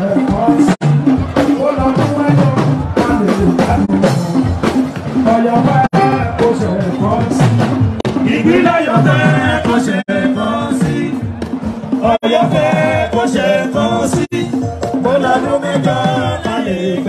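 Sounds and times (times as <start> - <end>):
man singing into a microphone: 0.0 - 0.8, 1.4 - 4.1, 5.2 - 11.2, 12.0 - 17.0
drums and percussion: 0.0 - 17.0.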